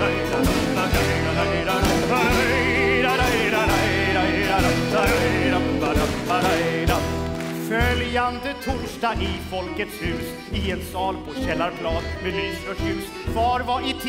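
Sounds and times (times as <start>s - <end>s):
fiddle melody with vibrato: 0.0s - 14.0s
sustained bass and accompaniment: 0.0s - 14.0s.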